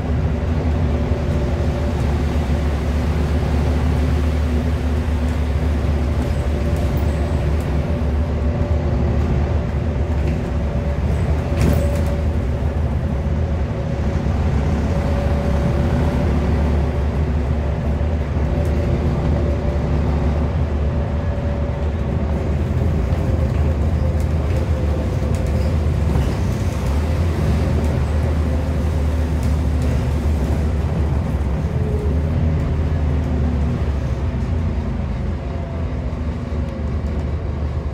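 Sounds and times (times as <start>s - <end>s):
diesel bus engine drone: 0.0s - 37.9s.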